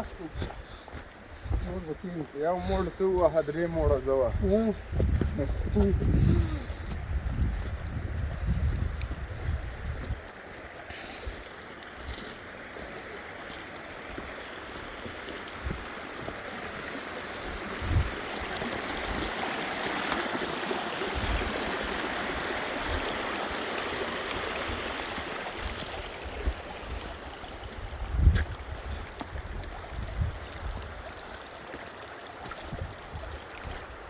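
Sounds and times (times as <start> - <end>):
rushing stream water: 0.0 - 34.0.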